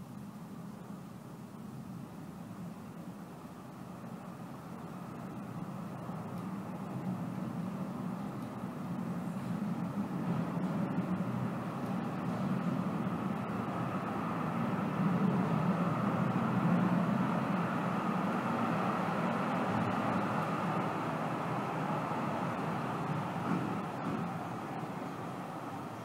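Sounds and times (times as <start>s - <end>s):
funicular car rumbling on rails: 0.0s - 26.0s.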